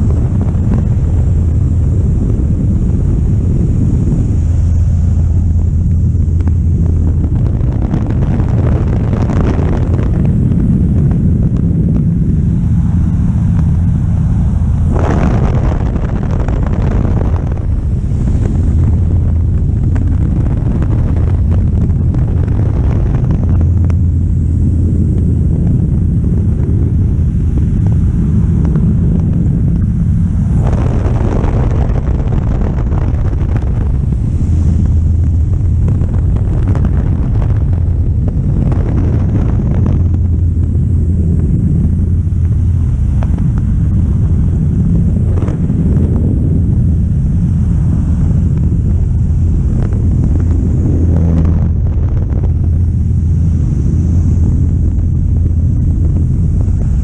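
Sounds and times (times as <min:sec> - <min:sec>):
propeller plane engine droning: 0:00.0 - 0:57.0
wind rushing over microphone: 0:00.0 - 0:57.0.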